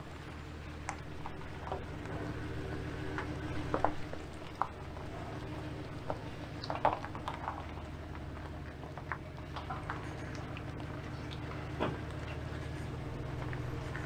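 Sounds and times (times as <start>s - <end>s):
trailer knocking and rattling: 0.0s - 14.0s
truck engine hum: 0.0s - 14.0s.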